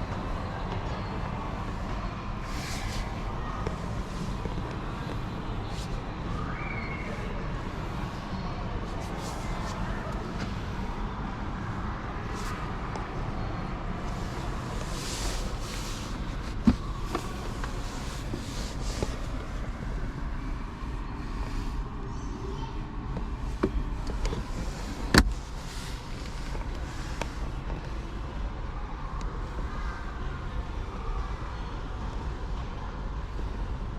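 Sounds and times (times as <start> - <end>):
low car rumble: 0.0 - 33.9.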